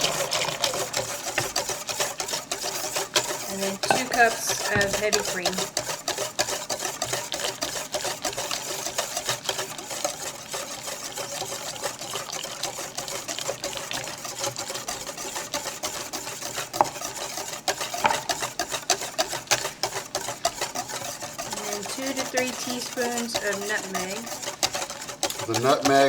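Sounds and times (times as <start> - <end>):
whisk clicking against bowl: 0.0 - 26.0.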